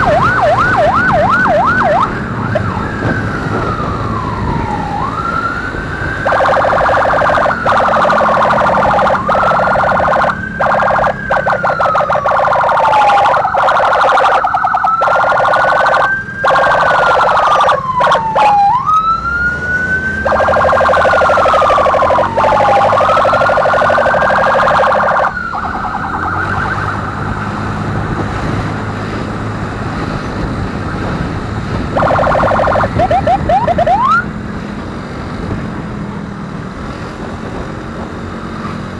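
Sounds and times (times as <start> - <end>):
quick rising siren chirps: 0.0 - 29.0, 31.9 - 34.3
siren wailing: 0.0 - 34.4
motorcycle road noise: 0.0 - 38.9.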